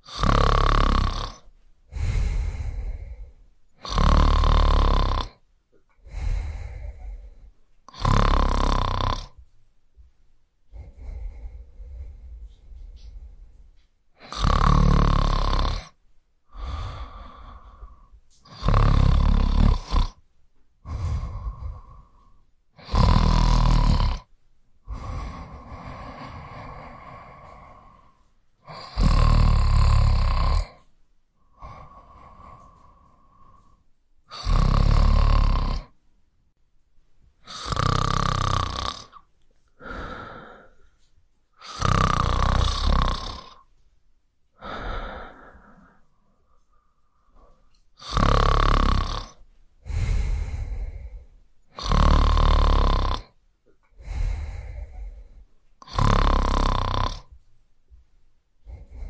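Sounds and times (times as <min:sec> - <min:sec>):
person snoring: 0:00.0 - 0:05.4, 0:06.0 - 0:09.4, 0:10.7 - 0:13.6, 0:14.2 - 0:20.2, 0:20.8 - 0:36.0, 0:37.4 - 0:40.9, 0:41.6 - 0:43.7, 0:44.6 - 0:57.4, 0:58.6 - 0:59.0.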